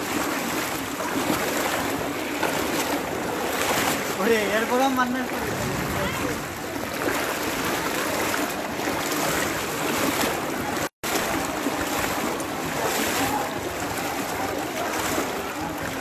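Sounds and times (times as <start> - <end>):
floodwater sloshing around wading legs: 0.0 - 16.0.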